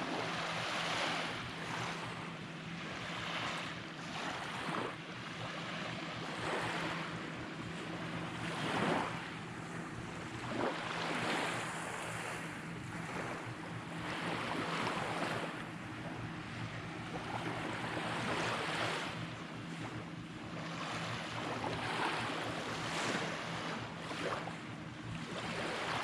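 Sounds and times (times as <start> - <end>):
small waves washing onto beach: 0.0 - 26.0.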